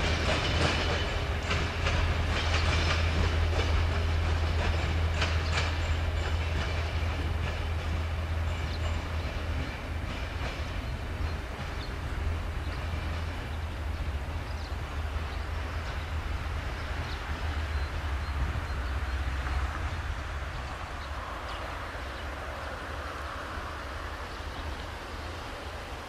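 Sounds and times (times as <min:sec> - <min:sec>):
low train rumble: 0:00.0 - 0:26.0
train wheels clicking over rail joints: 0:00.0 - 0:26.0.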